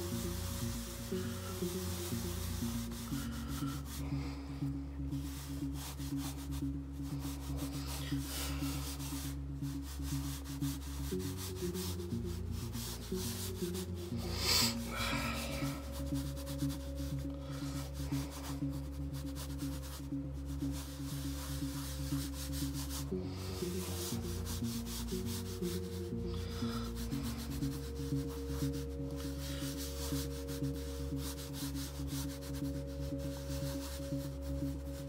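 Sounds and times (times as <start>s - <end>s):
soft background music: 0.0s - 35.0s.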